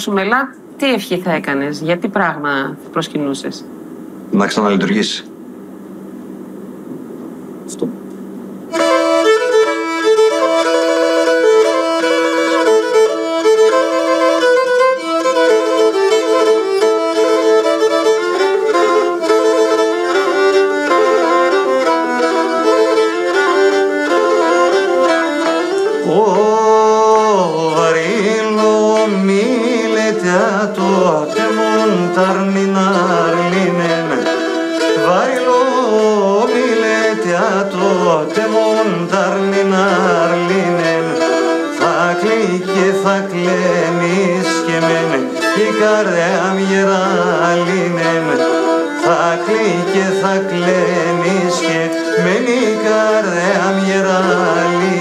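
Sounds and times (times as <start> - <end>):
bowed lyra folk melody: 8.7 - 55.0.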